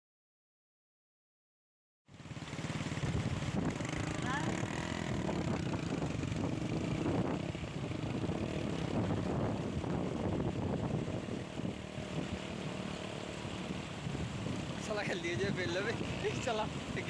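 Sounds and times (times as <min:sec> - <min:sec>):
floodwater rushing: 0:02.1 - 0:17.0
steady engine drone: 0:02.2 - 0:17.0
wind buffeting microphone: 0:02.3 - 0:17.0.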